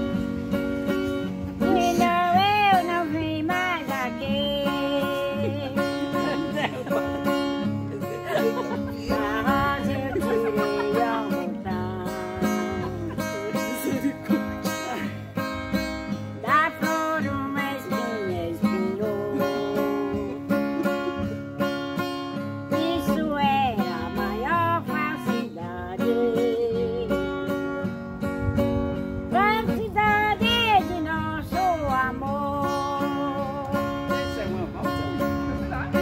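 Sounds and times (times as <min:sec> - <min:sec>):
elderly woman singing folk song: 0:00.0 - 0:34.6
acoustic guitar strumming: 0:00.0 - 0:36.0.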